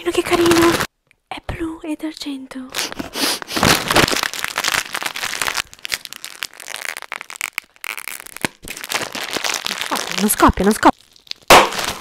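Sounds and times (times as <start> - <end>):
foil wrapper crinkling: 0.1 - 0.9, 2.8 - 12.0.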